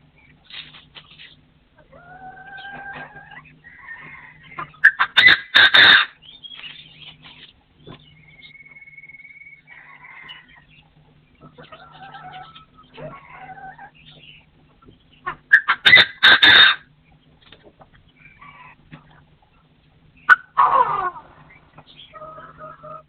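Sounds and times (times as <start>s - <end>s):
partridges calling: 2.3s - 23.0s.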